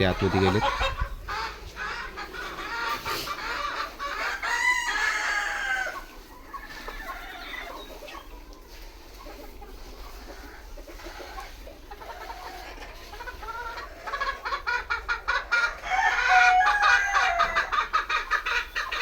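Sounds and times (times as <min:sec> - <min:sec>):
chicken drawn-out call: 0:00.0 - 0:19.0
chickens clucking: 0:00.0 - 0:19.0.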